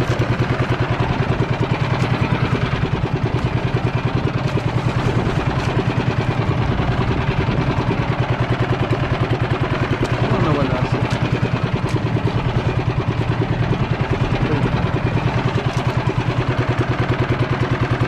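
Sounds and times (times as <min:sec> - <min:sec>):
small engine chugging: 0:00.0 - 0:18.0.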